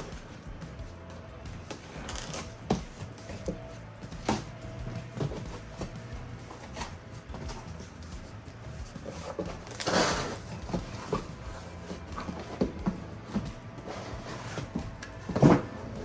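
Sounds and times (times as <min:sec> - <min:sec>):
cardboard knocks and clicks: 0:01.6 - 0:13.7, 0:14.4 - 0:16.0
cardboard rustling scrape: 0:01.7 - 0:16.0.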